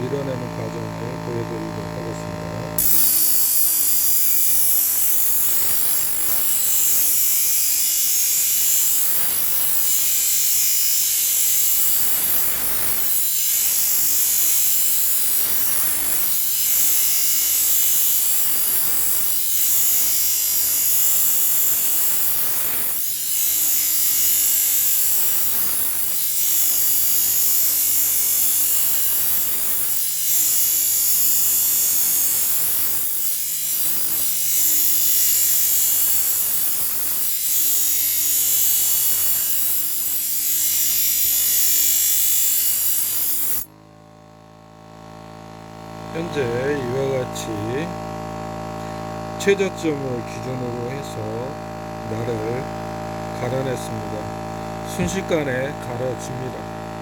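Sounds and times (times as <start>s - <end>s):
sharpening machine hum: 0.0s - 57.0s
knife blade grinding on disc: 2.7s - 43.8s, 46.2s - 57.0s.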